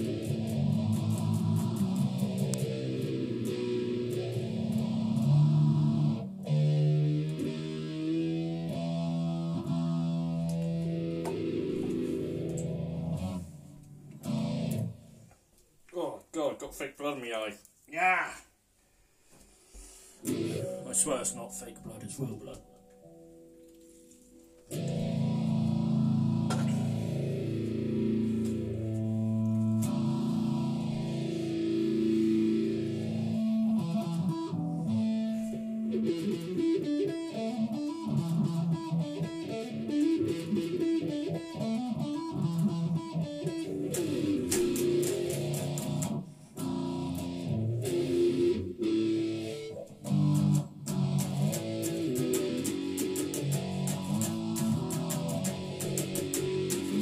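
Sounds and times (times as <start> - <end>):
electric guitar solo: 0.0 - 15.1, 20.2 - 22.0, 22.6 - 57.0.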